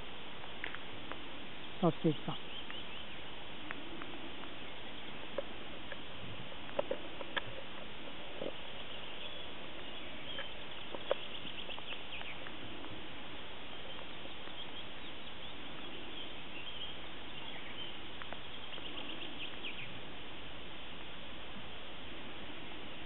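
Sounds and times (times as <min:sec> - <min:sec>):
background hiss: 0:00.0 - 0:23.0
small birds chirping: 0:00.0 - 0:23.0.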